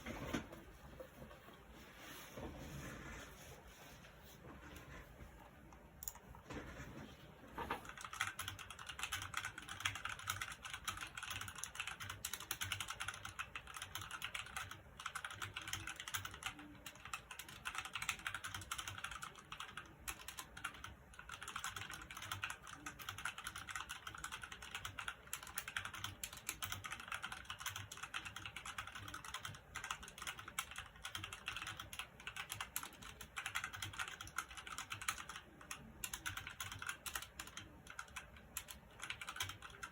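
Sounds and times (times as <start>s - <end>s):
mechanical keyboard typing: 6.0s - 6.3s, 7.6s - 39.9s.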